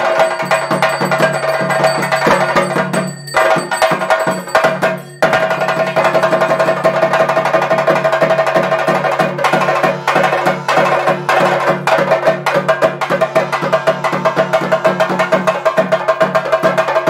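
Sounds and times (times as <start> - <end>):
drums beaten with sticks: 0.0 - 17.0.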